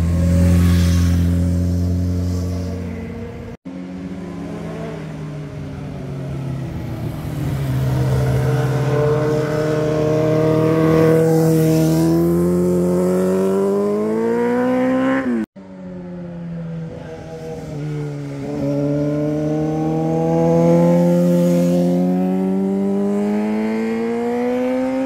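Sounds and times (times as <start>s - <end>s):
motorcycle engines passing: 0.0s - 25.0s.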